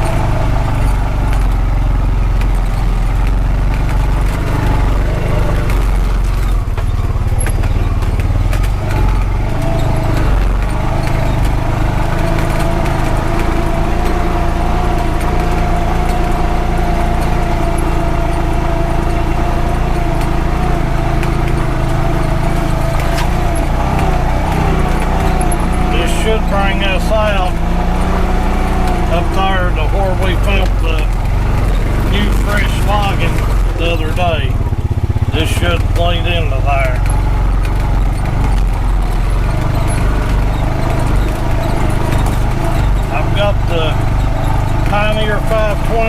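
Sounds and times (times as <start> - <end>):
rattles and knocks: 0.0 - 46.0
steady whine: 0.0 - 46.0
vehicle engine running: 0.0 - 46.0.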